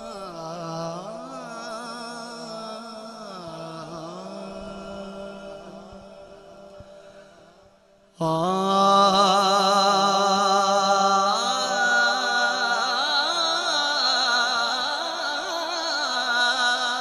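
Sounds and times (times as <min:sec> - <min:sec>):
man singing with vibrato: 0:00.0 - 0:17.0.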